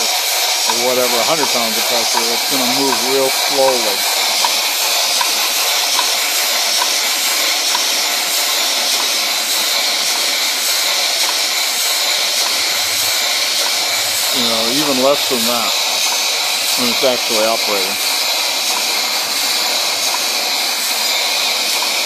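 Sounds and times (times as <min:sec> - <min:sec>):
hiss of exhausting air: 0:00.0 - 0:22.0
pump knocking: 0:00.0 - 0:22.0.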